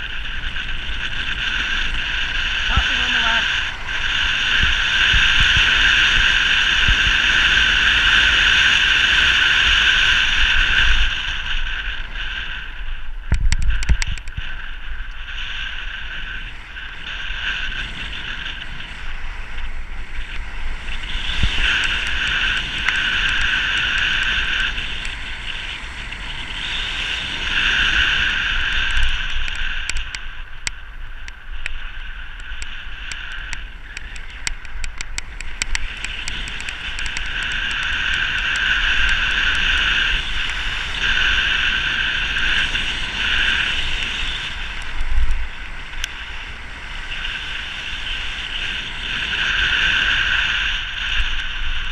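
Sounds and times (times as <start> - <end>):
wind rushing over camera: 0.0 - 51.9.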